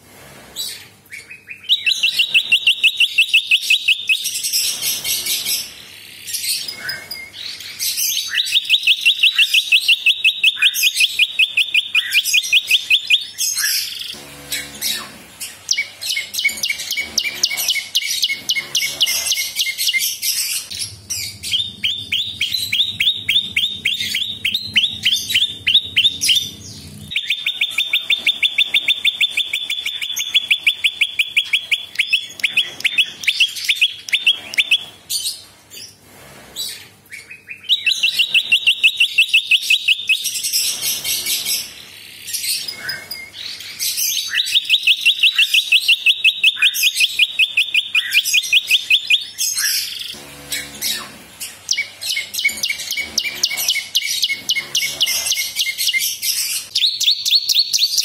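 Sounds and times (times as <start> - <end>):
bird singing fast trills: 0.6 - 35.3, 37.1 - 58.0.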